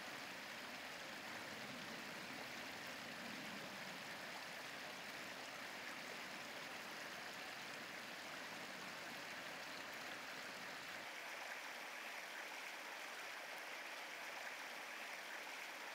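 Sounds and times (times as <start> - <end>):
shallow river babbling: 0.0 - 15.9.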